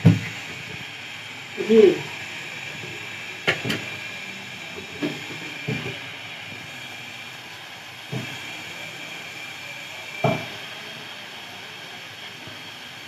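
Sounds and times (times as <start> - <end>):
gas stove burner hissing: 0.0 - 13.0.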